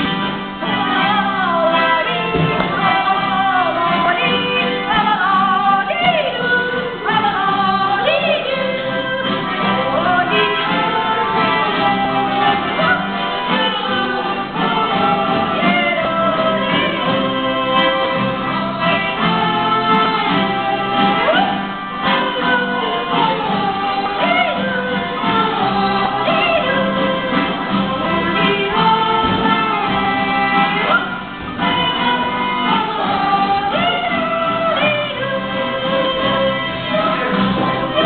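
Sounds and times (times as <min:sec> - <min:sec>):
instrumental backing: 0:00.0 - 0:38.0
person singing: 0:00.0 - 0:38.0.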